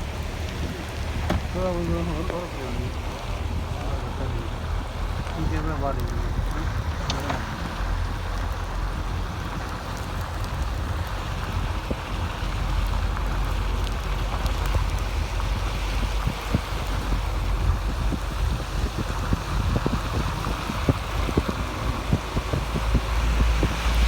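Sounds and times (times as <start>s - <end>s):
heavy rain falling: 0.0s - 24.0s
low rumble: 0.0s - 24.0s.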